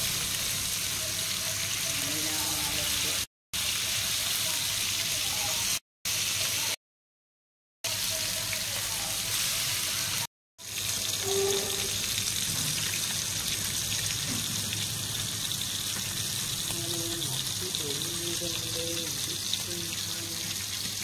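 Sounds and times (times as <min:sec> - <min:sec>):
fish sizzling in hot oil: 0:00.0 - 0:06.8, 0:07.9 - 0:21.0.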